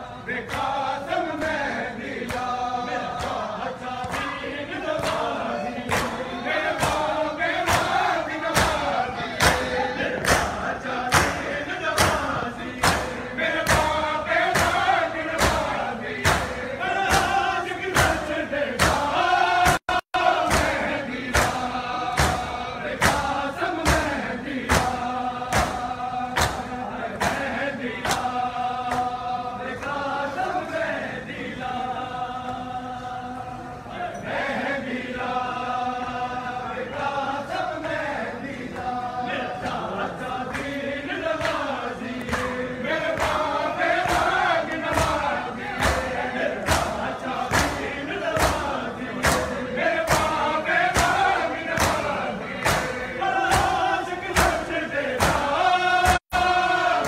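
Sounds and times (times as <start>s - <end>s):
rhythmic chest-beating thumps: 0.0s - 32.8s, 34.4s - 57.0s
crowd chanting in unison: 0.0s - 57.0s.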